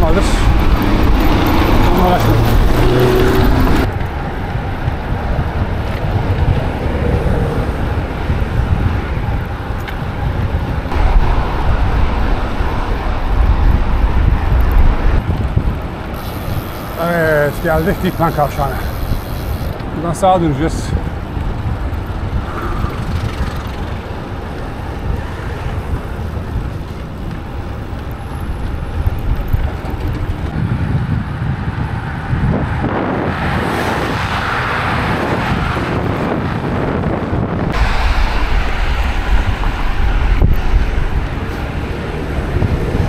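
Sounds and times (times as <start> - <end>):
road traffic: 0.0 - 43.0
rush of road noise: 0.0 - 43.0
wind buffeting microphone: 0.0 - 43.0.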